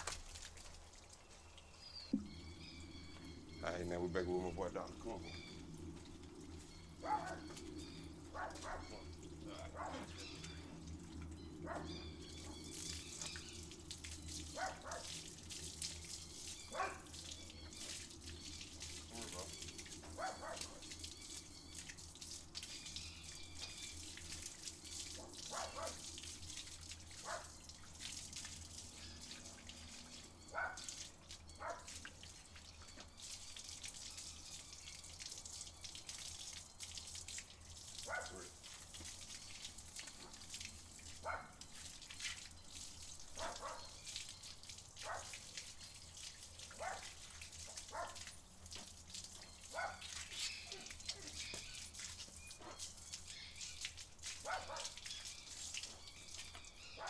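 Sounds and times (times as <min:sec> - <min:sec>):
hose spraying water: 0:00.0 - 0:00.9, 0:01.9 - 0:57.0
water splashing on concrete: 0:00.0 - 0:57.0.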